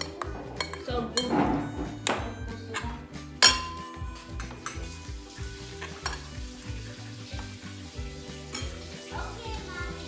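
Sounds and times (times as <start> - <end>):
utensil clinking on a dish: 0.0 - 7.7, 8.4 - 9.5
background music: 0.0 - 10.0.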